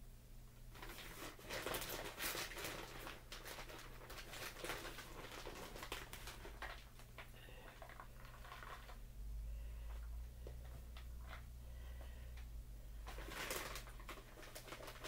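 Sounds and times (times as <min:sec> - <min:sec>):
plastic bag crinkling: 0:00.7 - 0:09.1, 0:09.9 - 0:15.0.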